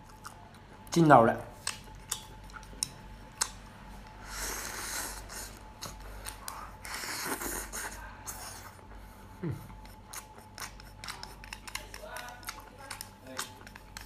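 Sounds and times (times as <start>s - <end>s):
soft wet chewing: 0.0s - 14.0s.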